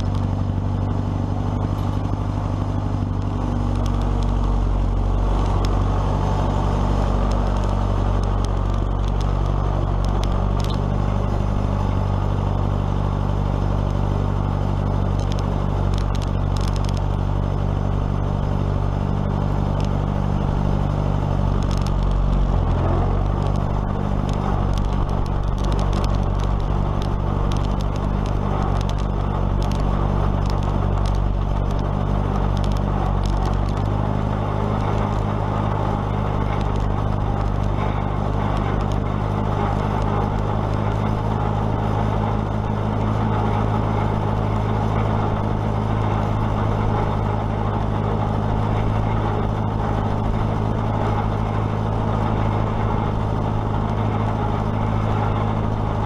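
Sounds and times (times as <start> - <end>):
light clicking and clatter: 0.0 - 12.9, 13.7 - 56.0
tractor engine running: 0.0 - 56.0.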